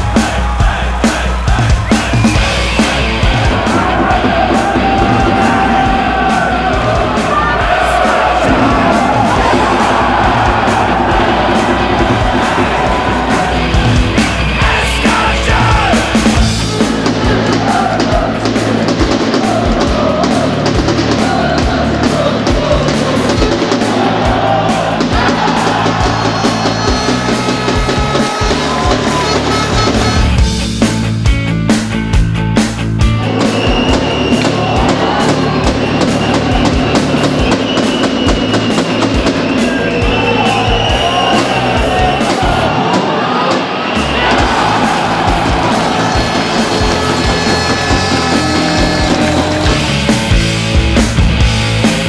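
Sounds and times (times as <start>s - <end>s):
driving drum beat: 0.0s - 52.0s
loud rock music: 0.0s - 52.0s.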